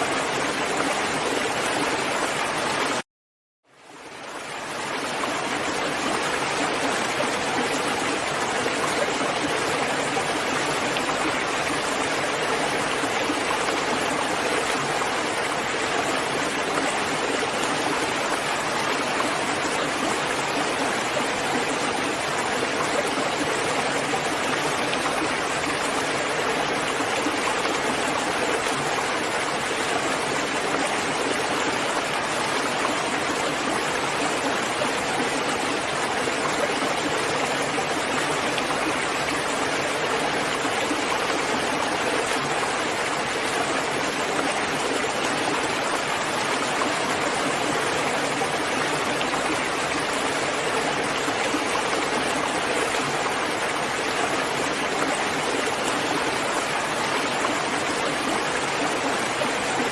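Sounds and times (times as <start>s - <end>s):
steady rain: 3.7s - 59.9s.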